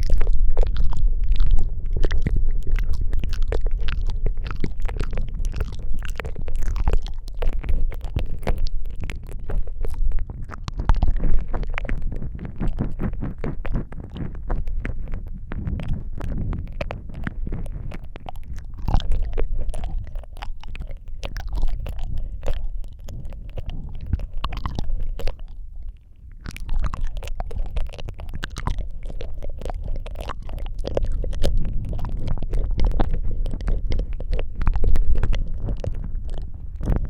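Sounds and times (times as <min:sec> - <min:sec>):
deep low rumble: 0:00.0 - 0:37.0
wet mouth clicks and smacks: 0:00.0 - 0:37.0.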